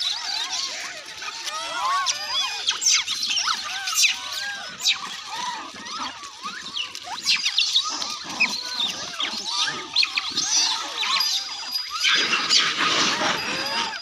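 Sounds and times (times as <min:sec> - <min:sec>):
monkeys squeaking and chirping: 0:00.0 - 0:14.0
shrill monkey squeals: 0:00.0 - 0:14.0.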